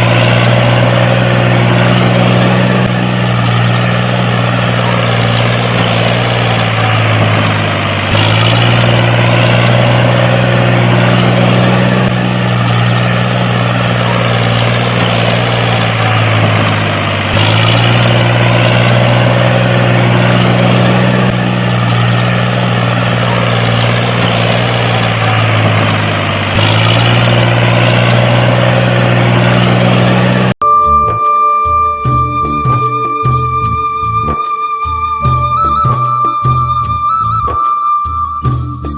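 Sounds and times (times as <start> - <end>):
motor humming with deep drone: 0.0 - 31.2.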